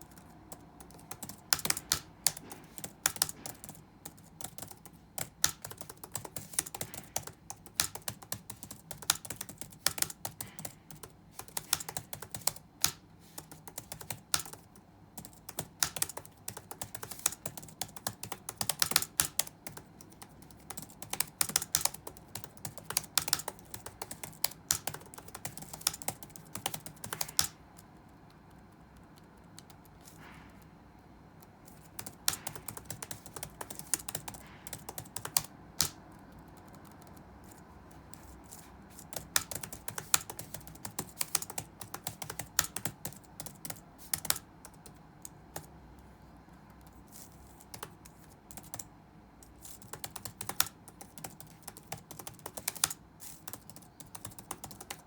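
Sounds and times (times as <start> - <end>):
keyboard typing: 0.0 - 30.6, 31.4 - 45.7, 46.6 - 55.0
low room hum: 0.0 - 55.0.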